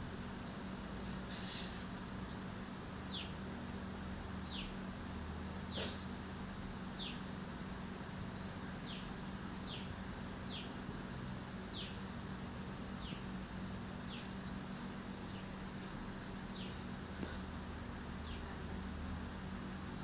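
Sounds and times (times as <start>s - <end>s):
steady low hum: 0.0s - 20.0s
small birds chirping: 1.0s - 3.5s, 4.3s - 4.9s, 5.6s - 18.8s.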